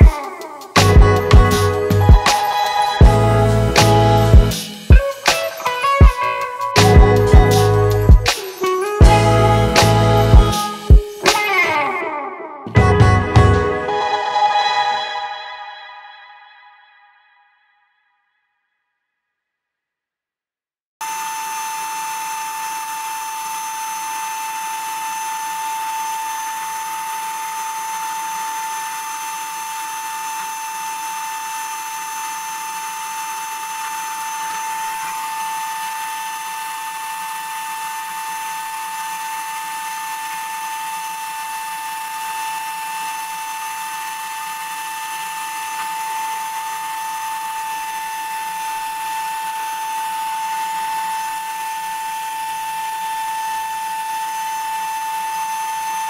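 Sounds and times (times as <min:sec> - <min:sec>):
paint sprayer turbine whine: 0:00.0 - 0:15.4, 0:21.0 - 0:56.0.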